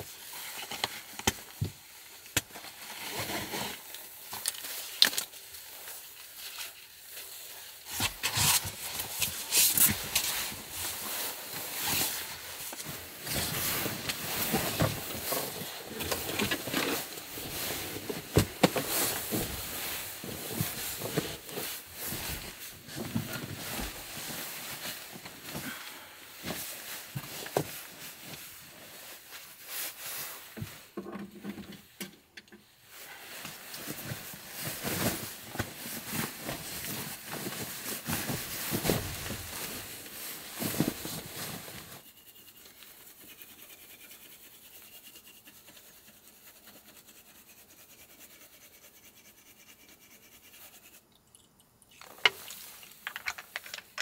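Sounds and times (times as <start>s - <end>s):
handling rustling and scraping: 0.0s - 49.0s, 49.9s - 54.0s.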